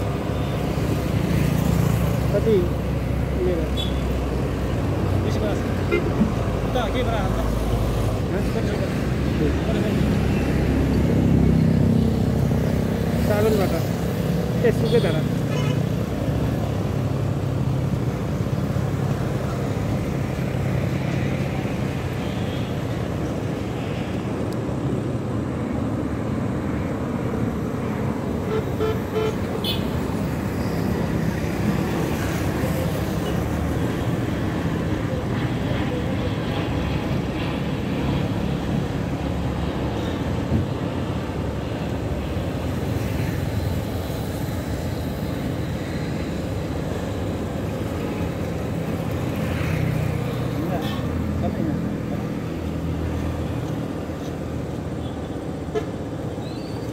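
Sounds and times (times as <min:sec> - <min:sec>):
road traffic rumble: 0:00.0 - 0:56.9.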